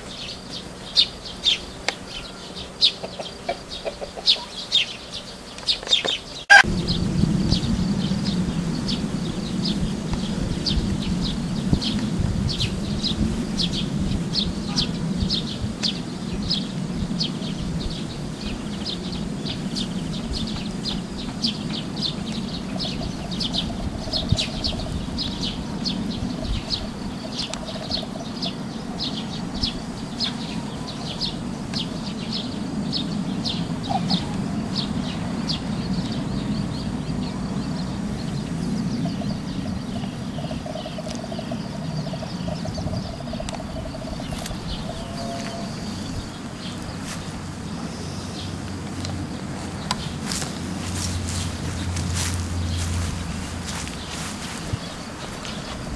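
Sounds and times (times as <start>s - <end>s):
low steady rumble: 6.5s - 55.9s.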